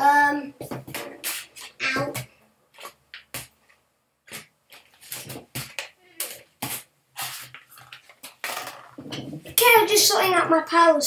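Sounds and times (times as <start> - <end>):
packaged items rustling and knocking: 0.6 - 9.6.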